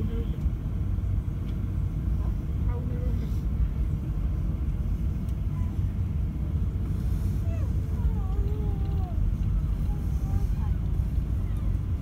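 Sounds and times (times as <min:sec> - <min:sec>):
jet engines droning at low thrust: 0:00.0 - 0:12.0
wheel and airframe rumble: 0:00.0 - 0:12.0.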